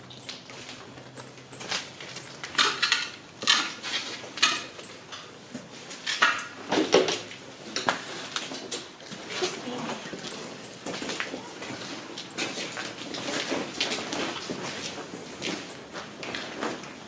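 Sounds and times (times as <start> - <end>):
debris clinking underfoot: 0.0 - 17.0
footsteps crunching over debris: 0.0 - 17.0.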